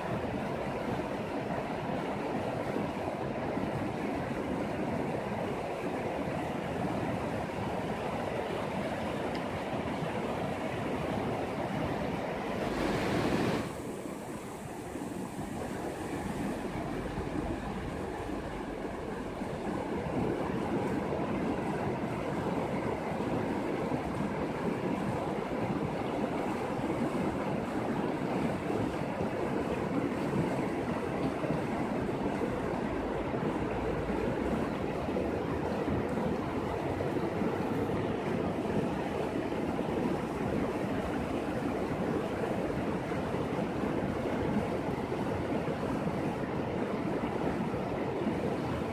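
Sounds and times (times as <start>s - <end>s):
river rushing over rocks: 0.0s - 48.9s.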